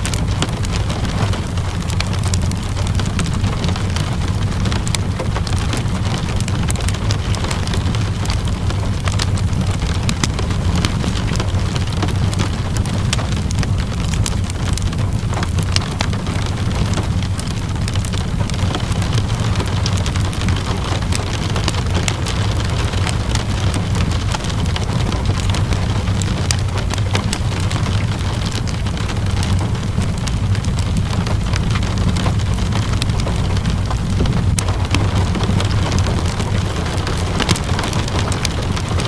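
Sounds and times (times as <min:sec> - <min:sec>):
deep low rumble: 0:00.0 - 0:39.0
steady rainfall: 0:00.0 - 0:39.0
wood fire crackling: 0:00.0 - 0:39.0.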